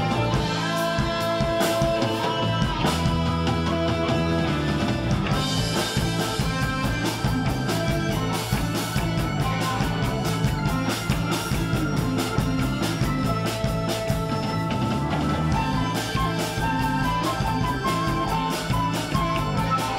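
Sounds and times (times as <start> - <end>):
drum kit beat: 0.0 - 19.9
electric guitar: 0.0 - 19.9.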